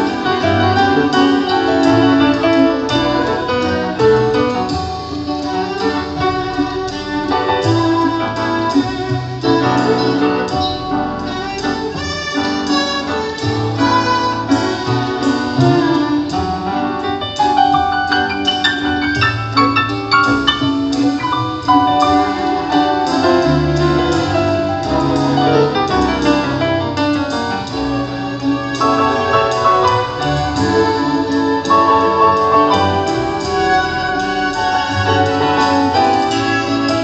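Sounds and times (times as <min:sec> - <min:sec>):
grand piano playing: 0:00.0 - 0:37.0.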